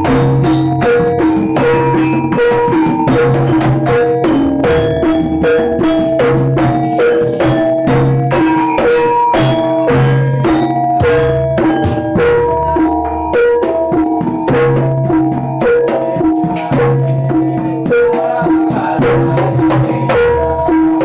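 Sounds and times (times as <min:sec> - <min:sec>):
gamelan ensemble playing: 0:00.0 - 0:21.0
hand drums striking: 0:00.0 - 0:21.0.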